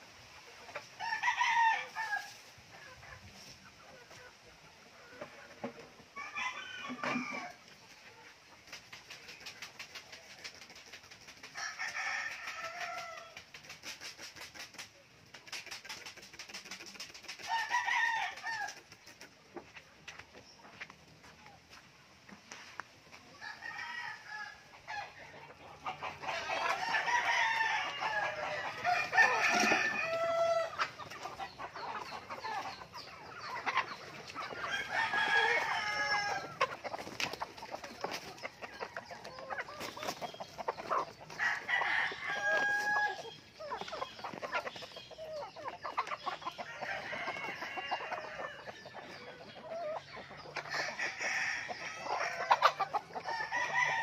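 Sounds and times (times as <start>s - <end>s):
hens and roosters clucking: 0.0s - 54.0s.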